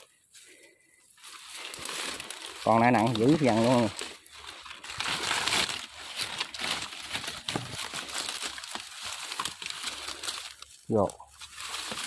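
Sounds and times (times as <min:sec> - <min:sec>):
leaves and twigs rustling: 0:00.0 - 0:12.0
twigs snapping: 0:01.2 - 0:12.0.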